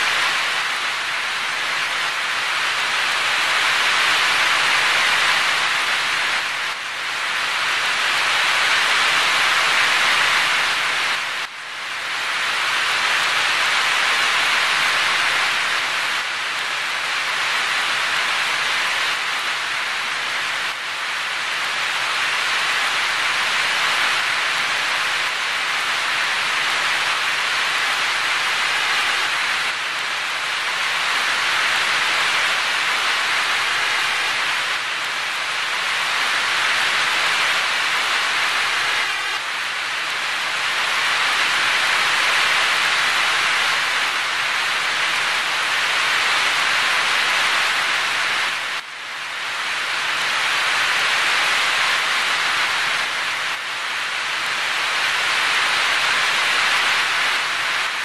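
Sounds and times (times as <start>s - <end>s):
heavy rain splashing: 0.0s - 58.0s.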